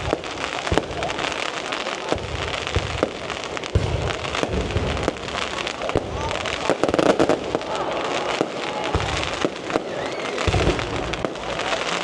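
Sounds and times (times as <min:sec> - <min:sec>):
deep firework booms: 0:00.0 - 0:12.0
fireworks crackling: 0:00.0 - 0:12.0.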